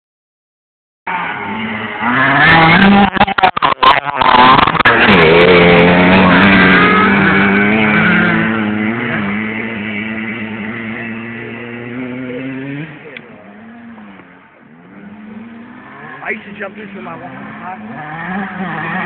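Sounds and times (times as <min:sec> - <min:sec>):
dirt bike engine revving: 0:01.1 - 0:19.0.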